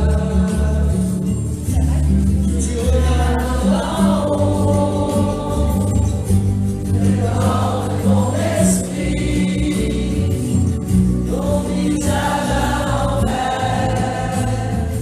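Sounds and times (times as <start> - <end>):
group singing choir-style: 0.0 - 15.0.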